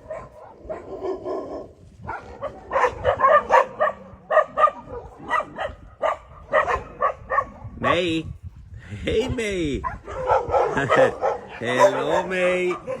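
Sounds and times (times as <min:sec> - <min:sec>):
dogs barking in short yaps: 0:00.0 - 0:07.7, 0:09.8 - 0:13.0.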